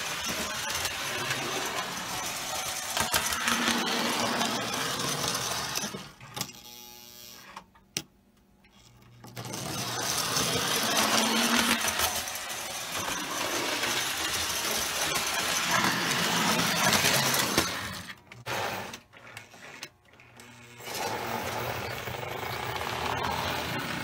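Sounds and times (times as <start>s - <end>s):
toy train motor whirring: 0.0s - 7.6s, 8.7s - 24.0s.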